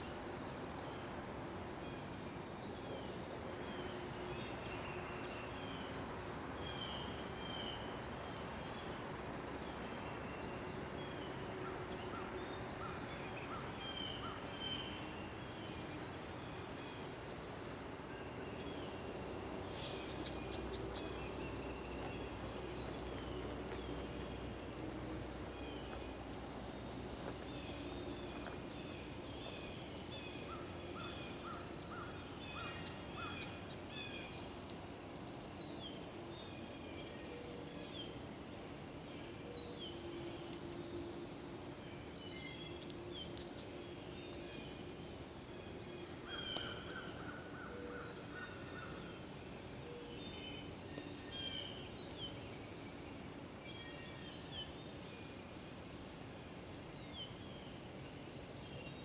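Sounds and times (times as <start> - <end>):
songbirds singing and chirping: 0.0 - 59.0
steady hiss: 0.0 - 59.0.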